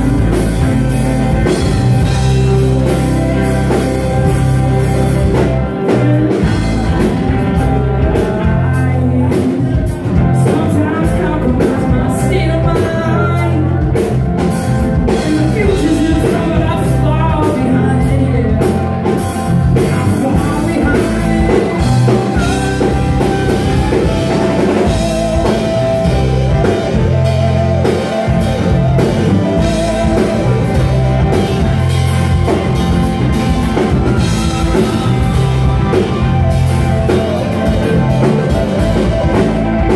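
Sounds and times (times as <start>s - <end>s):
steady drum beat: 0.0s - 13.1s, 14.0s - 39.9s
electric guitar: 0.0s - 39.9s.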